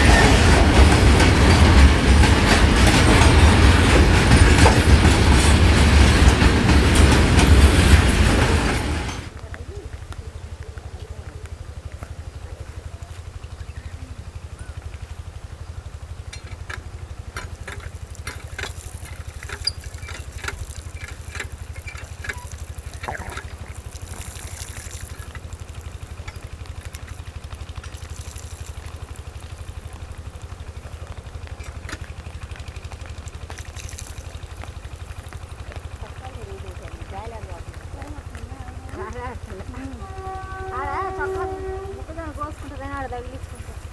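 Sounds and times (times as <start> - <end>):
engine idling rumble: 0.0 - 43.9.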